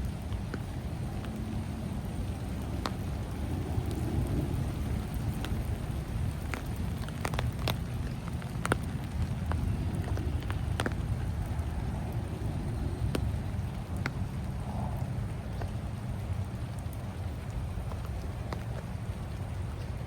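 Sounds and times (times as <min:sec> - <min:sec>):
raindrops ticking: 0:00.0 - 0:20.0.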